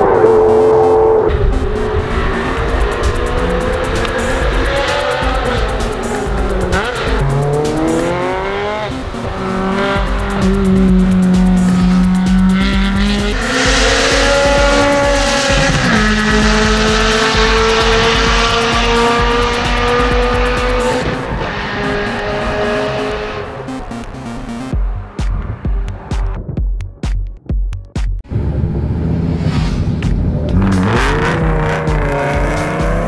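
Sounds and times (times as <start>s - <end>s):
sports car engine accelerating: 0.0s - 26.4s, 28.2s - 33.0s.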